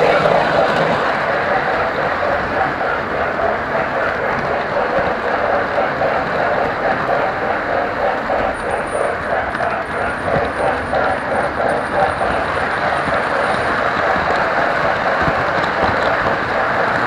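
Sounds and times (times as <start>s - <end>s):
model train wheels and motor running: 0.0s - 17.0s.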